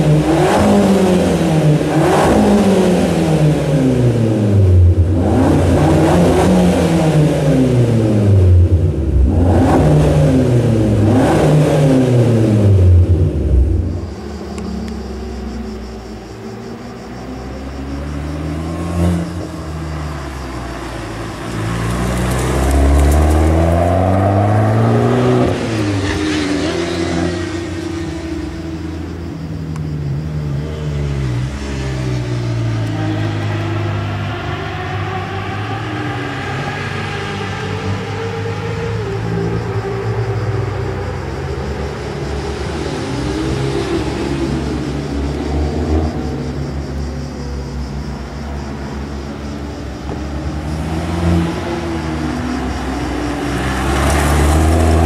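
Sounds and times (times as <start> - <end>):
car engine driving by: 0.0 - 55.0.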